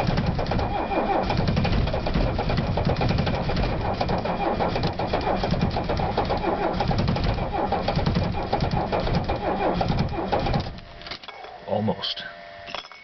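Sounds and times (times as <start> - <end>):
diesel engine cranking: 0.0 - 10.8.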